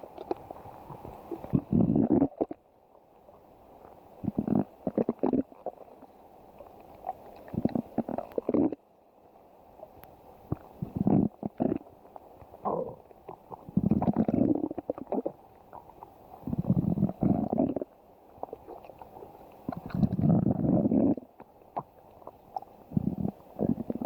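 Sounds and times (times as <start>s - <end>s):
stomach growling: 0.0s - 2.7s, 3.8s - 8.8s, 10.5s - 24.0s.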